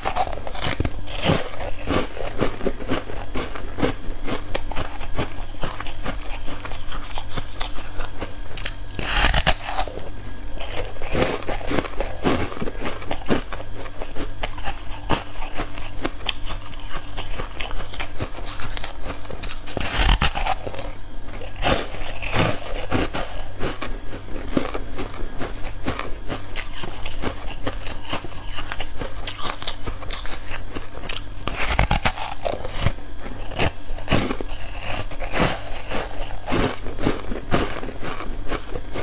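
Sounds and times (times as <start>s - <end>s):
ice crunching while chewed: 0.0s - 39.0s.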